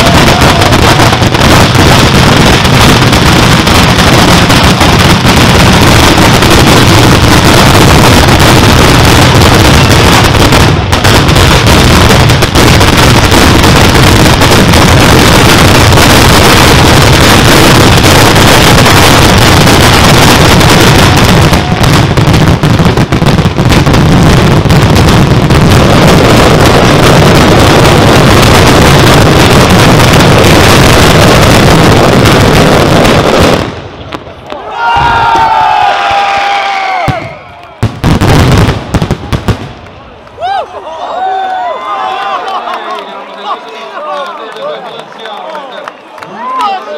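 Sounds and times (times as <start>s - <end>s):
firecrackers going off: 0.0s - 46.9s.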